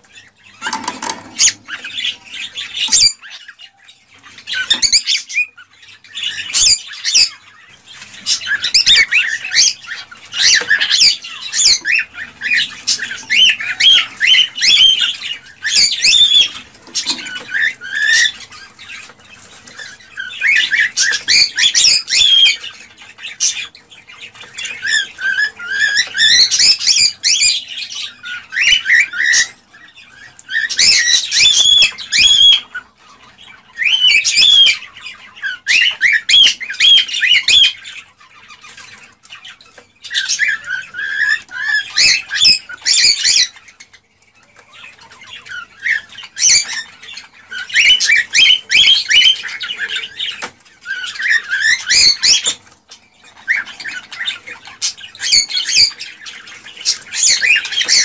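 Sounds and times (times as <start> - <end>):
cockatiels chattering and chirping: 0.0 - 58.0.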